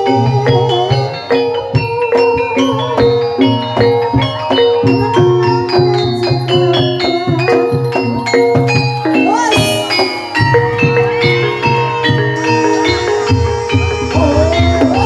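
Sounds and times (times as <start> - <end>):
drum strokes: 0.0 - 15.0
held tones: 0.0 - 15.0
mallet percussion notes: 0.0 - 15.0.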